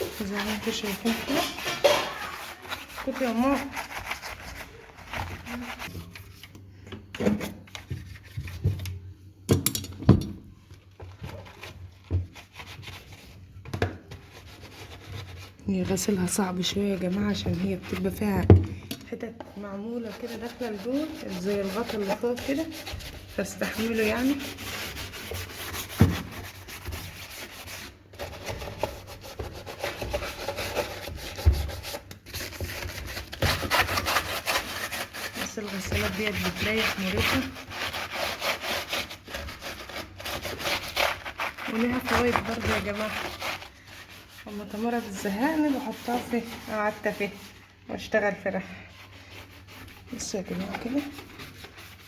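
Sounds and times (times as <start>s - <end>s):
scrubbing in washing machine: 0.0s - 6.4s, 10.9s - 18.6s, 19.6s - 52.0s.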